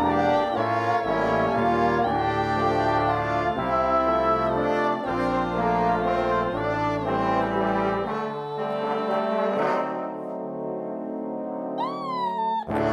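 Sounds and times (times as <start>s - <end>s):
brass ensemble sustained chords: 0.0s - 11.8s.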